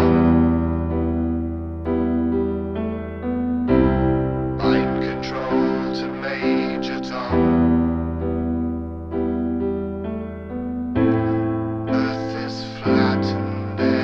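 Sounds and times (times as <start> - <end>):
electric keyboard chords: 0.0 - 14.0.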